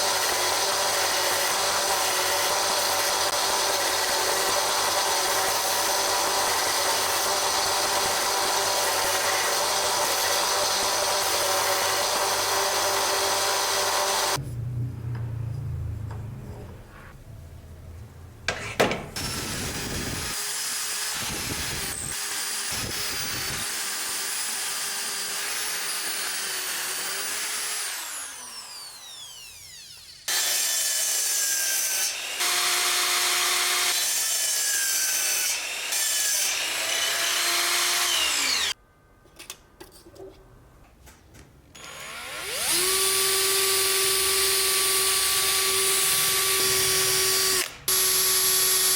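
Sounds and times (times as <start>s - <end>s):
power tool grinding: 0.0s - 14.4s, 18.5s - 38.8s, 41.8s - 48.9s.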